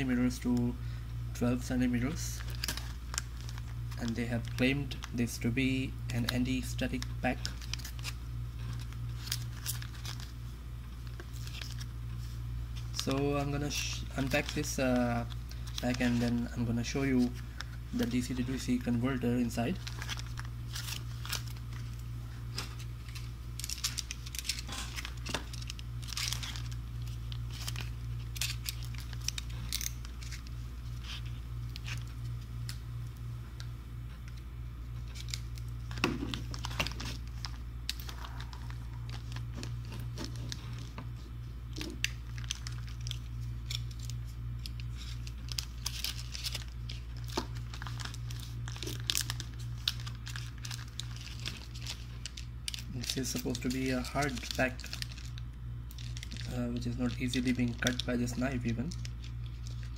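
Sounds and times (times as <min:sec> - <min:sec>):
steady low hum: 0:00.0 - 0:59.9
plastic pouch crinkling: 0:02.1 - 0:33.2, 0:35.0 - 0:59.9.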